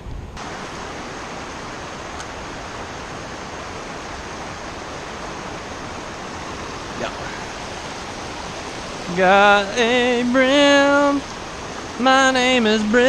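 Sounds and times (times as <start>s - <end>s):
river water rushing over rapids: 0.4s - 13.0s.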